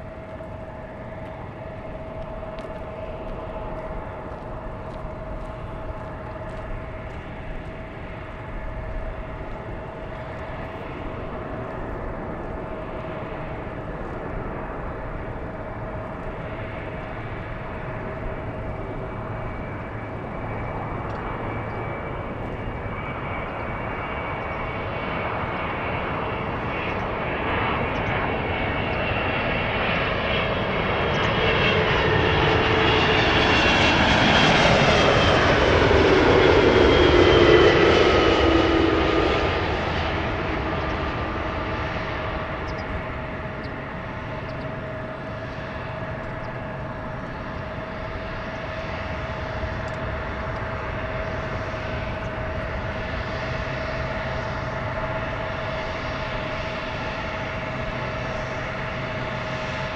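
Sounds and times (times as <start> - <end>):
jet airliner passing: 0.0 - 59.9.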